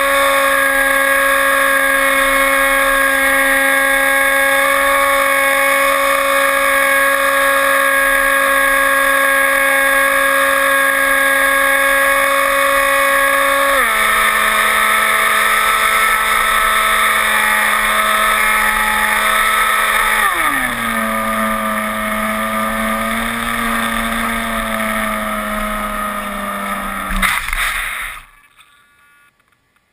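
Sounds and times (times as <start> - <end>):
electric motor and propeller whining: 0.0 - 28.4.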